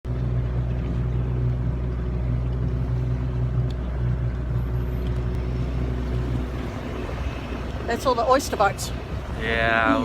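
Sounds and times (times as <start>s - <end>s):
boat engine droning: 0.1s - 10.0s.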